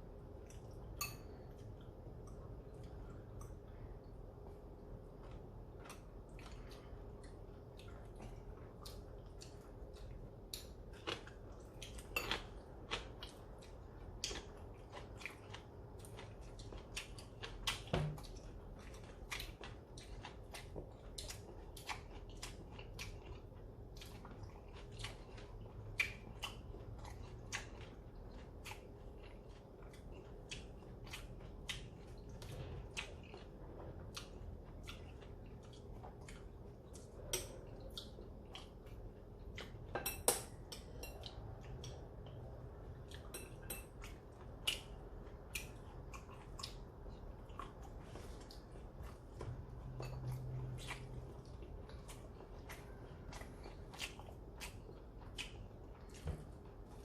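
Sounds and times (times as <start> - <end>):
faint steady hum: 0.0 - 57.0
chewing and biting: 5.1 - 39.9, 43.9 - 57.0.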